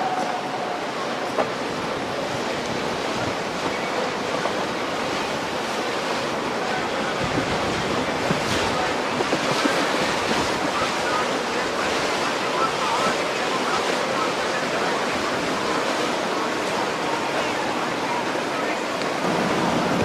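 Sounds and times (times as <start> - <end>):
wind buffeting microphone: 0.0 - 13.0, 14.8 - 20.0
breaking waves and churning water: 0.0 - 20.0.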